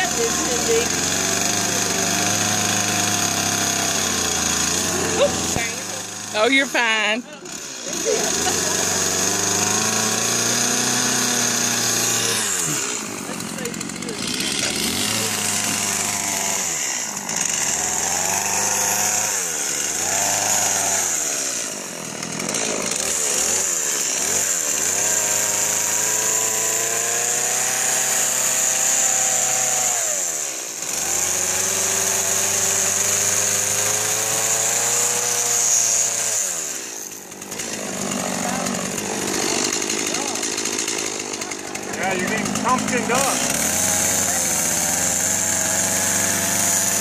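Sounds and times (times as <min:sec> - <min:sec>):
chainsaw cutting pumpkin: 0:00.0 - 0:47.0.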